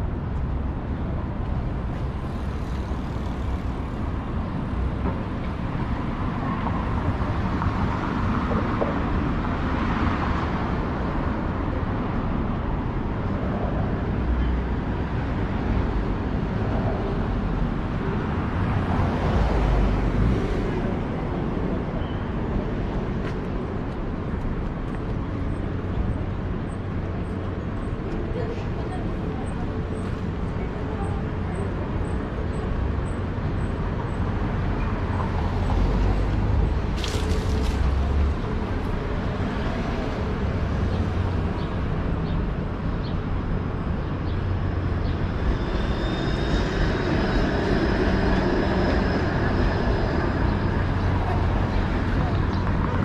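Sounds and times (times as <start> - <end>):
low rumble of road noise: 0.0 - 53.0
vehicles passing: 0.0 - 53.0.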